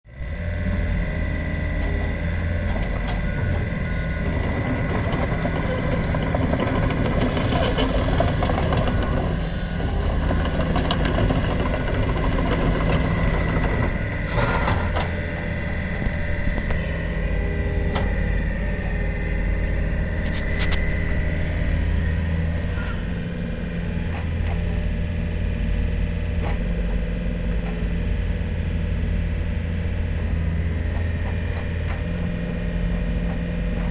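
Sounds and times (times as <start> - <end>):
diesel excavator engine running: 0.1 - 33.9.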